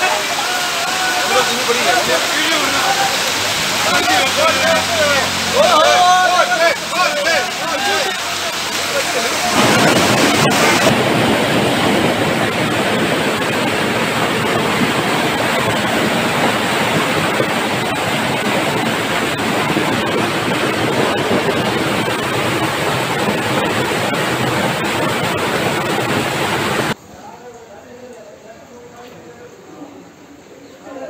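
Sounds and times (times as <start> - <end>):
water rushing down a lane: 0.0 - 27.0.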